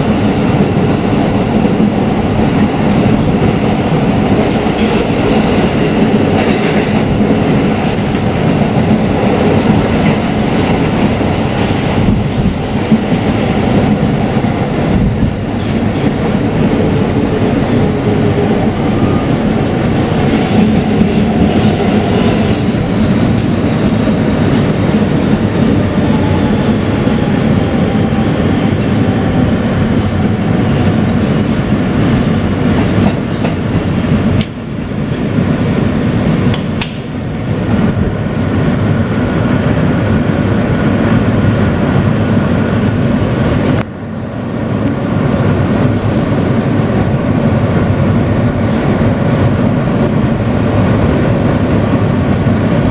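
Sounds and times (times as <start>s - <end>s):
subway car rumble and rattle: 0.0s - 52.9s.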